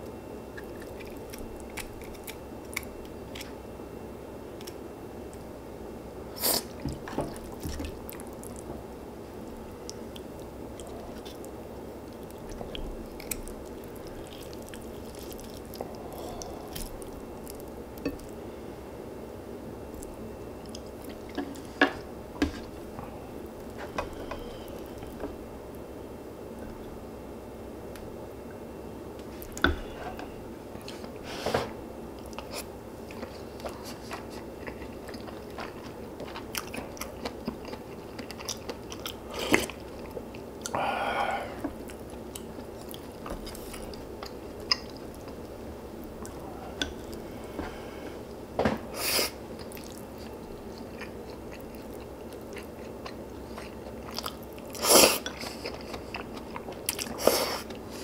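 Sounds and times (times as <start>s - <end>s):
person chewing food: 0.0s - 3.6s, 6.4s - 18.8s, 19.8s - 25.8s, 29.2s - 58.0s.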